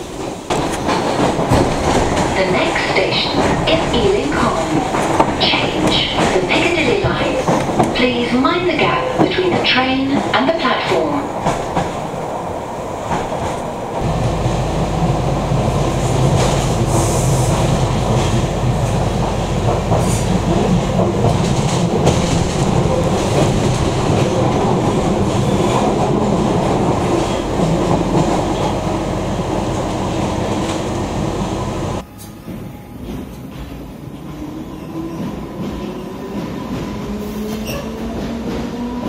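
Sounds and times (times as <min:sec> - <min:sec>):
train wheels rumbling on rail: 0:00.0 - 0:39.0
track clicking: 0:00.2 - 0:34.5.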